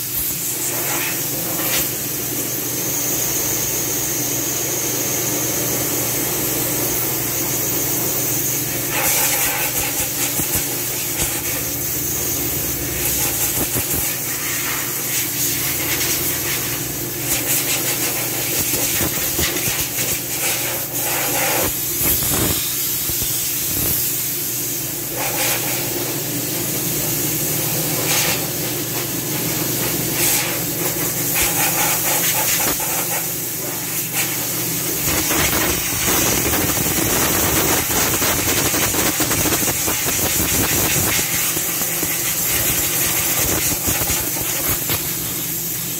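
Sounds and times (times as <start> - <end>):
compressed air hissing: 0.0 - 45.9.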